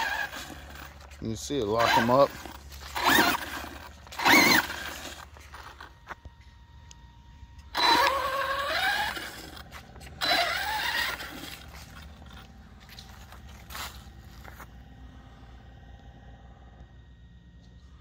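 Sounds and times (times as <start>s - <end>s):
electric motor whining: 0.0s - 17.2s.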